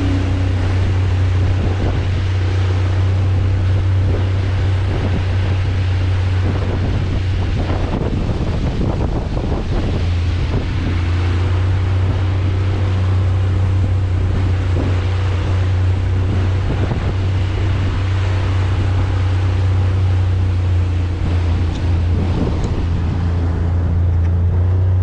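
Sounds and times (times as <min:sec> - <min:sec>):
outboard motor running: 0:00.0 - 0:25.0
rushing water: 0:00.0 - 0:25.0
wind buffeting microphone: 0:00.0 - 0:25.0.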